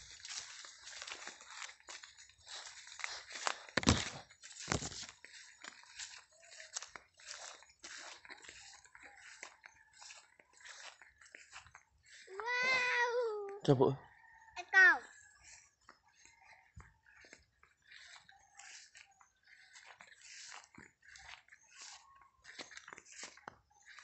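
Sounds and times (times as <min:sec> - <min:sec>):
footsteps crunching on dry leaves: 0:00.0 - 0:13.5, 0:14.2 - 0:24.0.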